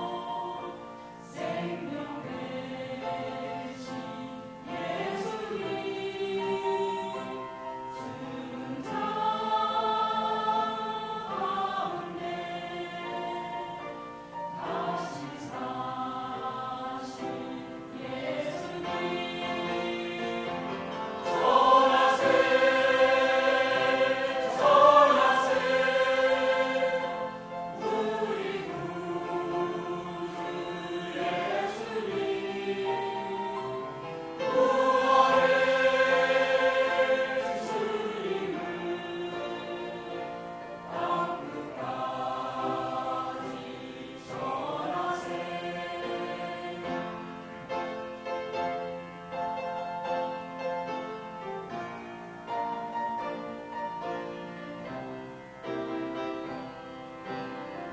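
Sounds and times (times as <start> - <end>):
choir singing a hymn: 0.0 - 57.9.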